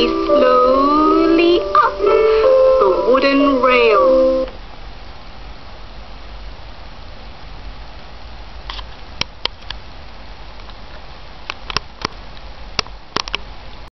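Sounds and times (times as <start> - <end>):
background hiss: 0.0 - 13.9.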